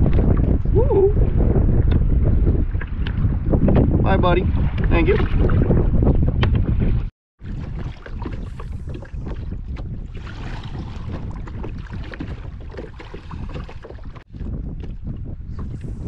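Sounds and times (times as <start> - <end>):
water lapping against kayak hull: 0.0 - 16.0
wind buffeting microphone: 0.0 - 16.0.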